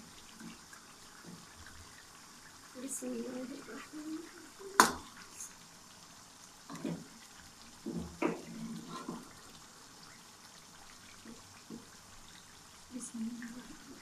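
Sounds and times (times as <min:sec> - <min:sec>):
gravy bubbling in a wok: 0:00.0 - 0:14.0.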